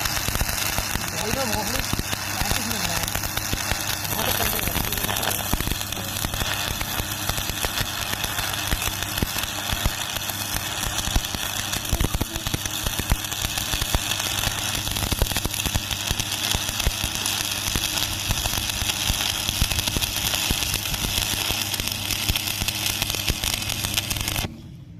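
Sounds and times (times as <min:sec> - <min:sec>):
welding arc crackling: 0:00.0 - 0:24.6
welding machine hum: 0:00.0 - 0:24.8.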